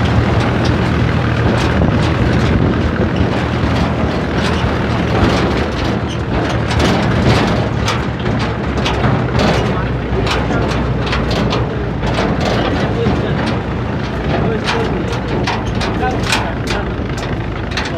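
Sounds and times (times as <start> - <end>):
short knocks and rattles: 0.0 - 17.9
tractor engine running: 0.0 - 17.9.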